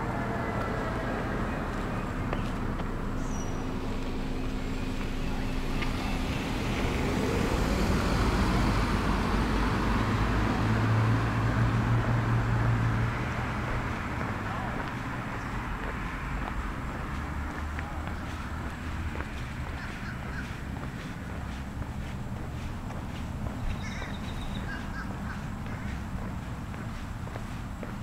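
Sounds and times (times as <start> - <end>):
road traffic: 0.0 - 28.0
vehicle engine hum: 0.0 - 28.0.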